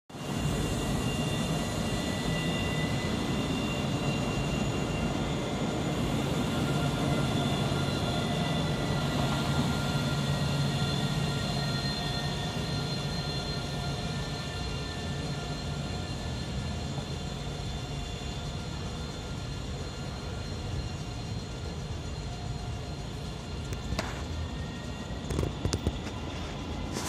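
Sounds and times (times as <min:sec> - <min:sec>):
tram rumbling along track: 0:00.1 - 0:27.0
high-pitched electric whines: 0:00.2 - 0:27.0.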